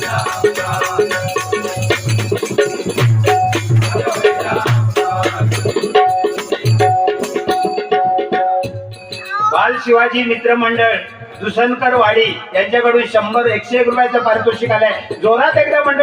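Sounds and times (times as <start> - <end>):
drum beating quick rhythm: 0.0 - 16.0
hand cymbals jingling: 0.0 - 16.0.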